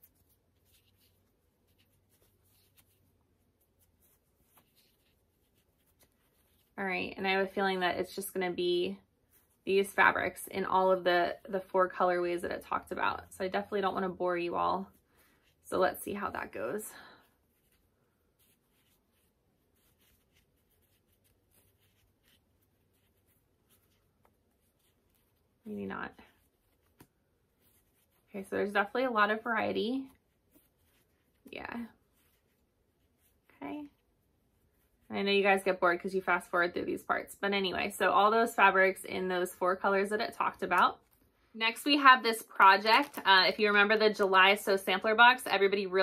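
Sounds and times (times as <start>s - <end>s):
fabric squares rustling: 0.0s - 35.8s, 37.7s - 45.0s.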